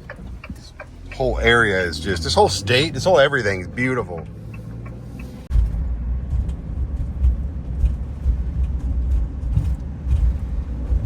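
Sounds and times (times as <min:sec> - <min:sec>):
van road rumble: 0:00.0 - 0:11.0.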